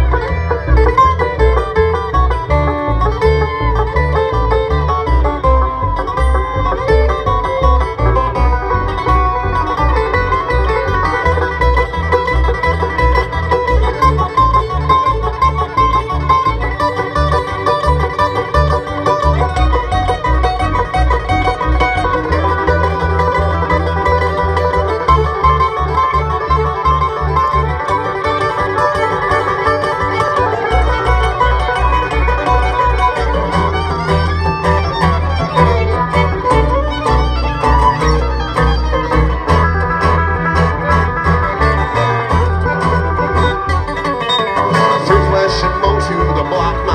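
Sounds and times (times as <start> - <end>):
banjo: 0.0 - 46.9
fiddle: 0.0 - 46.9
guitar: 0.0 - 46.9
upright bass beat: 0.0 - 46.9.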